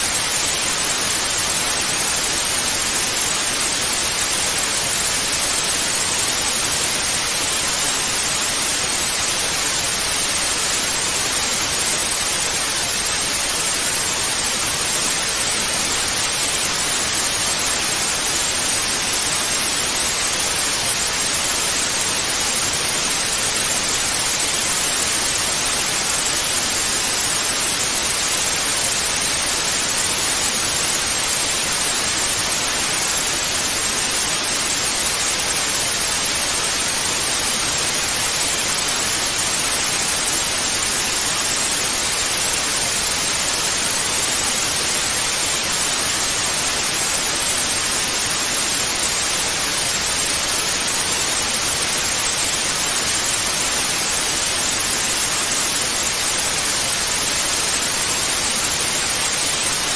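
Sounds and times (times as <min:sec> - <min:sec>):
television static hiss: 0:00.0 - 0:59.9.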